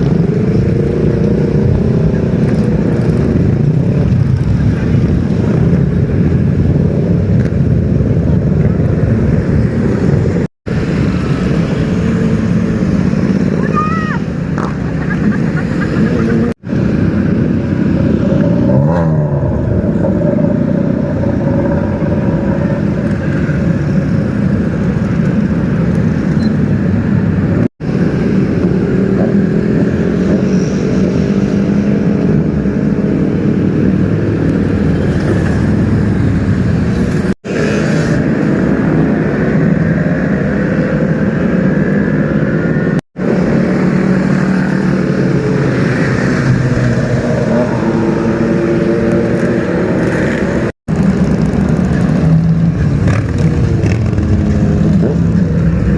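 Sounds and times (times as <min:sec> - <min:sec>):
motorcycle engines revving: 0:00.0 - 0:55.9.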